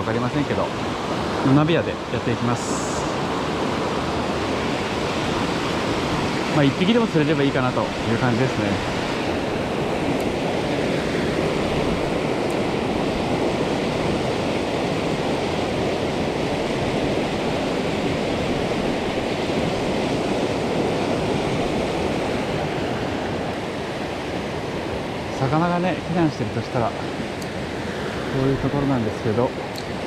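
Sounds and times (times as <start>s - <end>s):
stream rushing over boulders: 0.0s - 30.0s.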